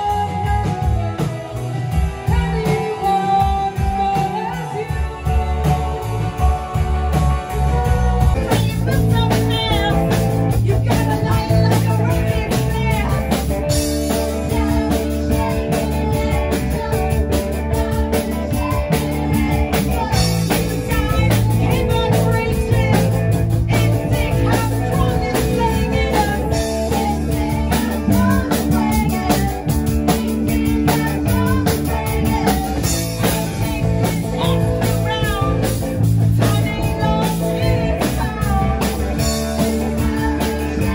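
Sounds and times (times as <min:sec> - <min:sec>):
live rock band playing: 0:00.0 - 0:40.9
person singing: 0:00.0 - 0:40.9.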